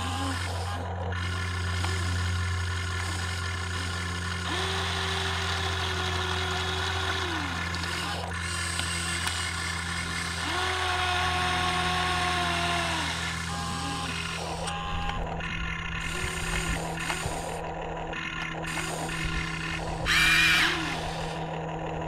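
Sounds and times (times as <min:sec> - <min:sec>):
electric motors whining: 0:00.0 - 0:22.0
steady low hum: 0:00.0 - 0:22.0.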